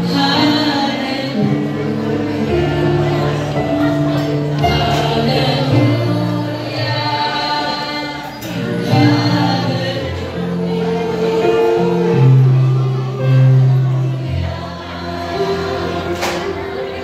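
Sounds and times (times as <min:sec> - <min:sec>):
group singing into microphones: 0:00.0 - 0:17.0.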